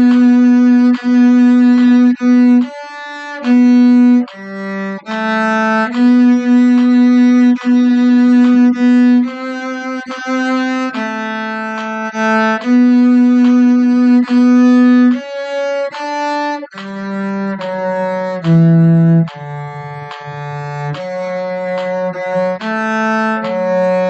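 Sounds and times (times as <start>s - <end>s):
cello slow melody: 0.0s - 24.0s.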